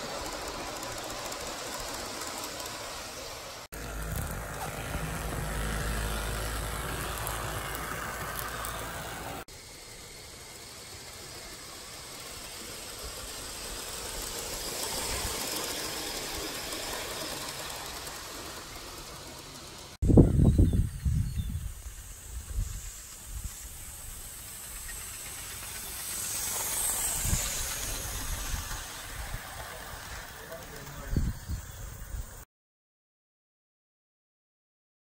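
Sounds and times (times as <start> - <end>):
model train wheels rattling: 0.0 - 20.0, 21.6 - 32.4.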